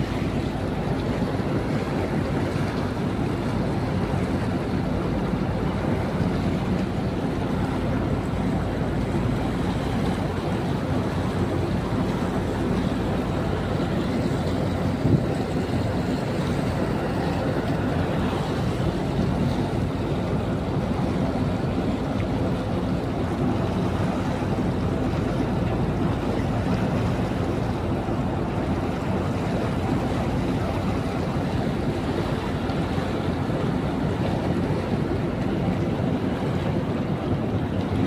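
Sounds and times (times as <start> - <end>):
boat engine drone: 0.0 - 38.0
propeller wash churning: 0.0 - 38.0
wind on microphone: 0.0 - 38.0.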